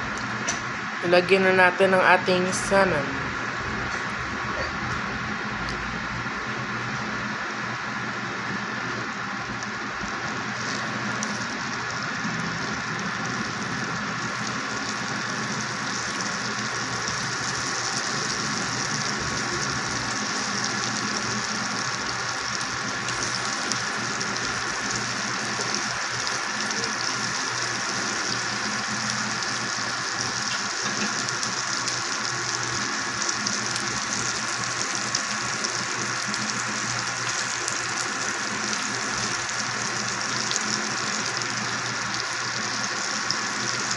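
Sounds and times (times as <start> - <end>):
fish frying in a pan: 3.4 - 43.9.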